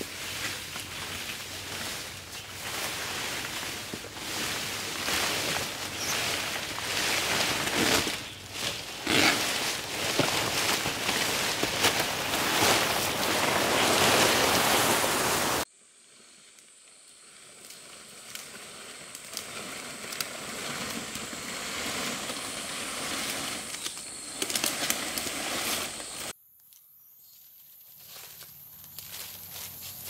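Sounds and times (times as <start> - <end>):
leaf crackling: 0.0 - 26.3, 27.5 - 30.0
palm fronds rustling and crackling: 0.0 - 26.7, 27.4 - 30.0.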